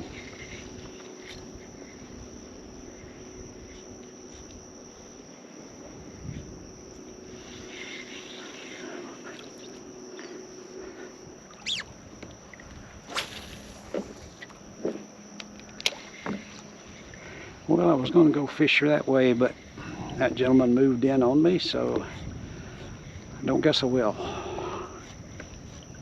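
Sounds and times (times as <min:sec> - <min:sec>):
trolling motor humming: 0:00.0 - 0:23.3
water noise: 0:00.0 - 0:26.0.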